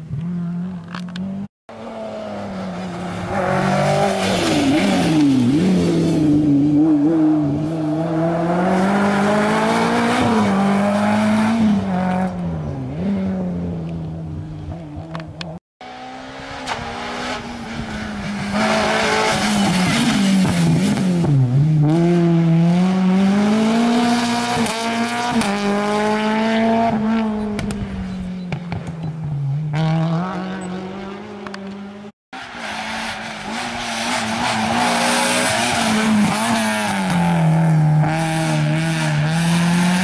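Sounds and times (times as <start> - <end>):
rally car approaching: 0.1 - 40.0
rally car passing at speed: 1.7 - 13.9, 15.8 - 28.8, 29.4 - 40.0.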